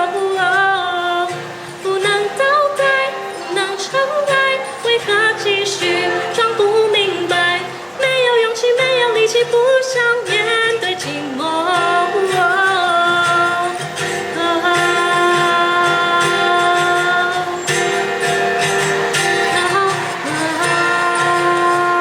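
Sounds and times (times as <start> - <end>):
pop accompaniment with guitar: 0.0 - 22.0
woman singing wordless melody: 0.0 - 22.0.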